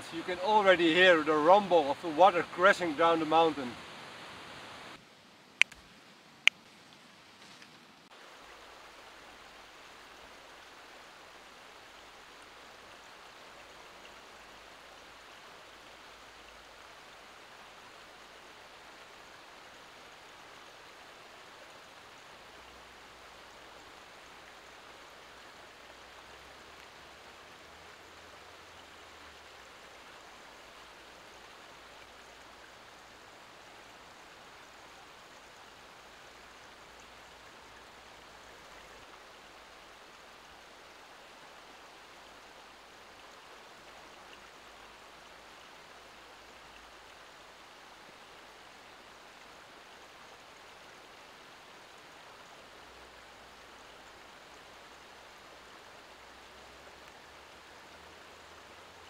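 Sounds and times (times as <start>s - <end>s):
river rushing over stones: 0.0s - 5.0s, 8.1s - 59.0s.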